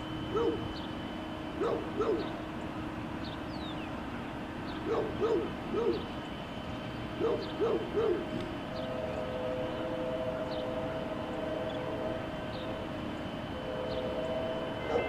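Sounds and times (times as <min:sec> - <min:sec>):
bird hooting coos: 0:00.0 - 0:15.0
distant train horn: 0:00.0 - 0:15.0.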